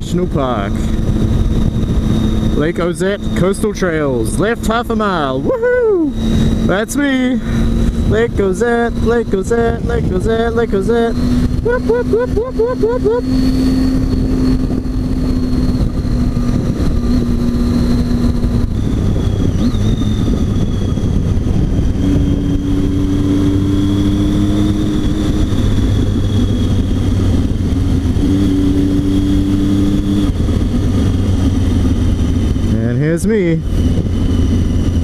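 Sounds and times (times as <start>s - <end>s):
motorcycle engine running: 0.0s - 35.0s
wind and road noise: 0.0s - 35.0s.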